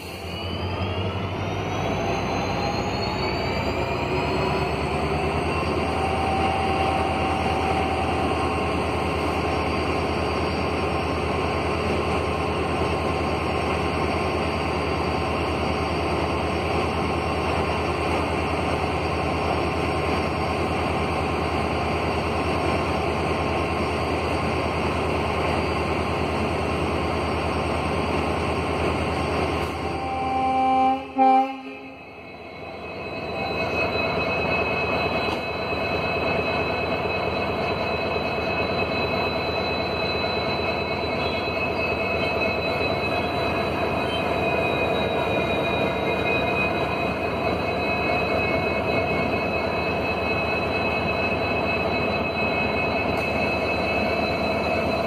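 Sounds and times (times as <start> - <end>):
train wheels running on rails: 0.0 - 55.0.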